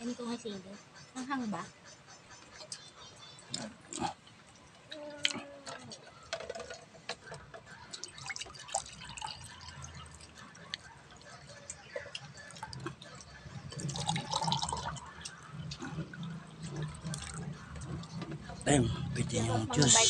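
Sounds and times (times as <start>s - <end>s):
people eating with their hands: 2.2s - 20.0s.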